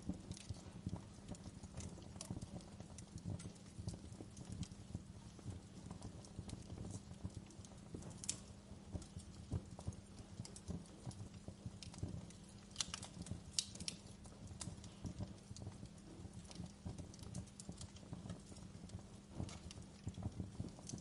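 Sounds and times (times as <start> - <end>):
fire crackling: 0.0 - 21.0
low steady hum: 0.0 - 21.0.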